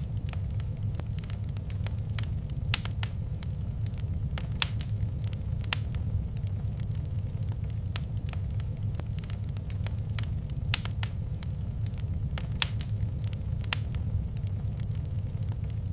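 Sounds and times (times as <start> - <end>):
fire popping: 0.0 - 15.9
wood fire crackling: 0.0 - 15.9.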